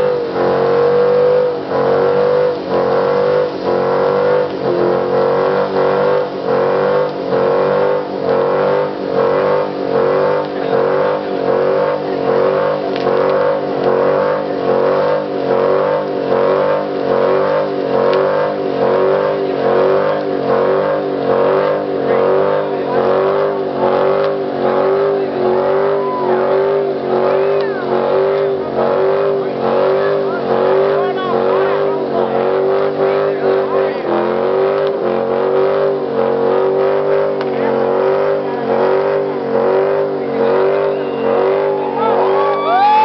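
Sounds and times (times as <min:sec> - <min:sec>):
car engine revving high: 0:00.0 - 0:43.0.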